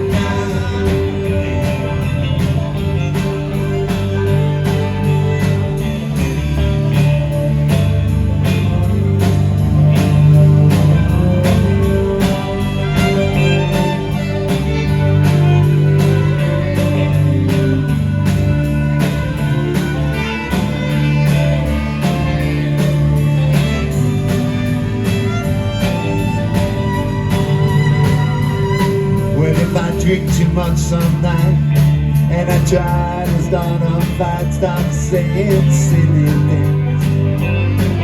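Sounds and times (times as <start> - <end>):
live rock band playing: 0.0 - 38.0
steady drumbeat: 0.0 - 38.0.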